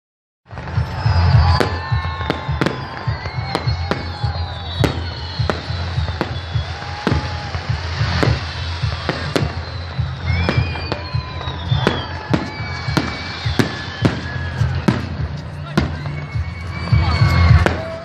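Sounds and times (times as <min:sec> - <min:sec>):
aerial fireworks bangs: 0:00.5 - 0:18.0.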